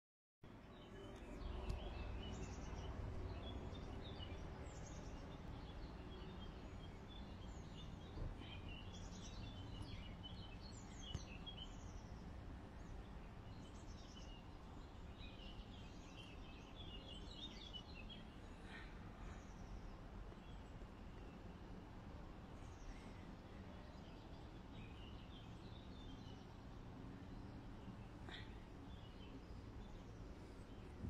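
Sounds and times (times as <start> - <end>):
songbirds chirping: 0.5 - 31.0.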